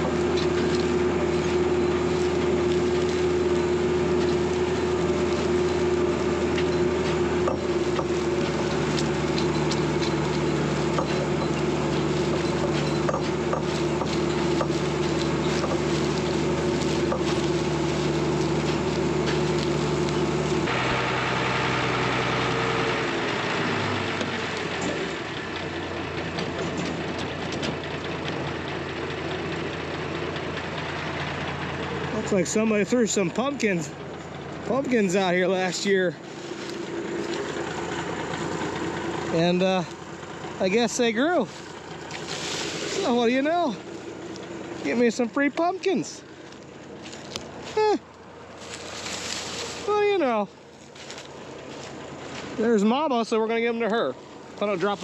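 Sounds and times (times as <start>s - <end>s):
farm machinery engine running: 0.0s - 55.0s.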